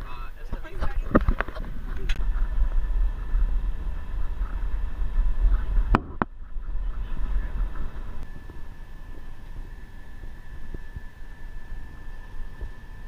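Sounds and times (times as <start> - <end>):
vehicle engine and tyre rumble: 0.6 - 13.0.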